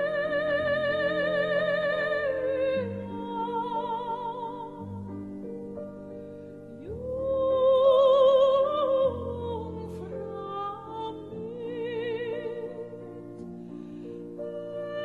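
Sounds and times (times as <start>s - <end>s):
slow background music: 0.0s - 15.0s.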